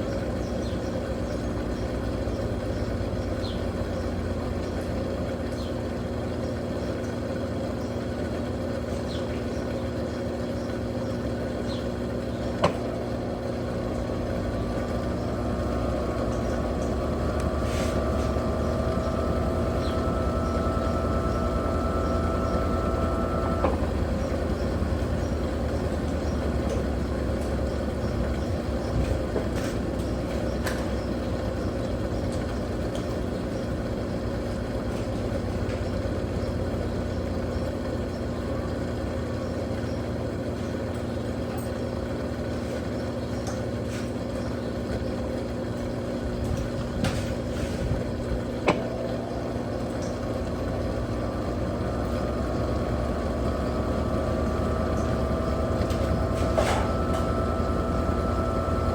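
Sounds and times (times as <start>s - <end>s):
washing machine motor hum: 0.0s - 58.9s.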